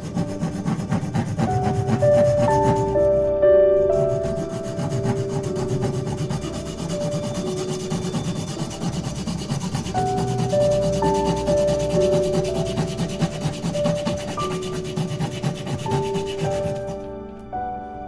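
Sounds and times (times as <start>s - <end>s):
tool rasping across wood: 0.0s - 17.1s
soft sustained musical notes: 1.5s - 18.0s.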